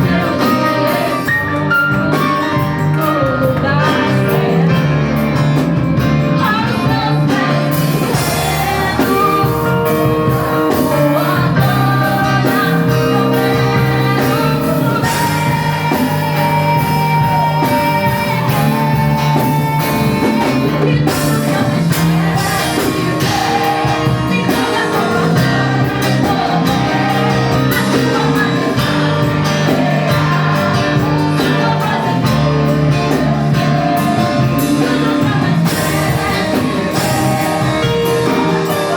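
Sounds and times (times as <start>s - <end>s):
guitar and band accompaniment: 0.0s - 38.9s
steady bass line: 0.0s - 38.9s.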